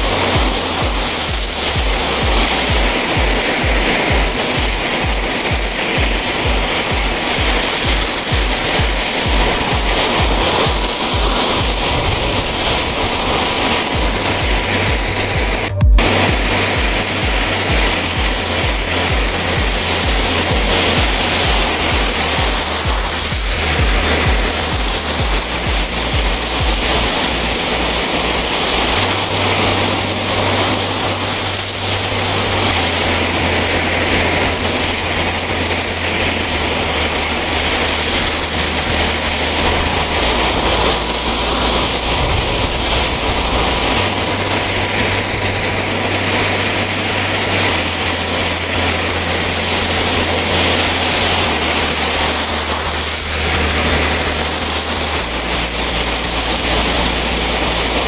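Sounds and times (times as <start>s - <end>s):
aircraft engine with high whine: 0.0s - 58.0s.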